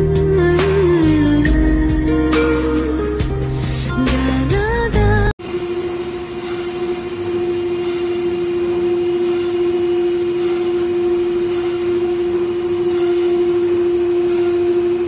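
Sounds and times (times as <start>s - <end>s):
spindle whine: 0.0s - 15.0s.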